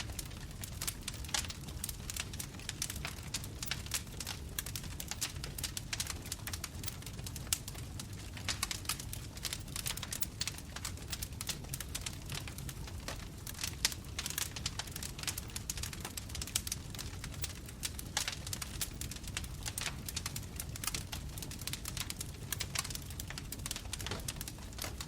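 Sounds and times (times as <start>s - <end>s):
bonfire crackling: 0.0s - 25.0s.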